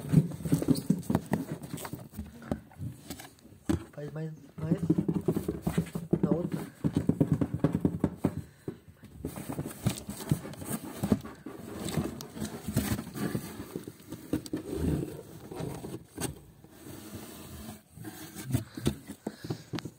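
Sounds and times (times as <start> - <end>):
cat scraping cardboard boxes: 0.0 - 3.4, 4.6 - 19.9.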